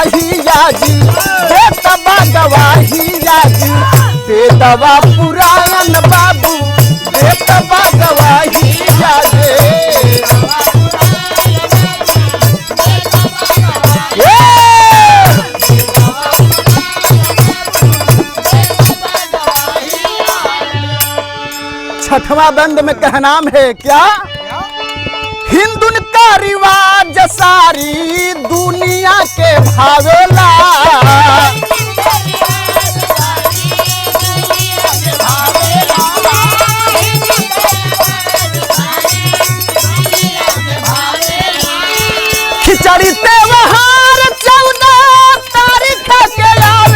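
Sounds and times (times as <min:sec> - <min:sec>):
rattling jingling percussion: 0:00.0 - 0:23.1, 0:26.7 - 0:46.9
folk music with hand drum: 0:00.0 - 0:46.9.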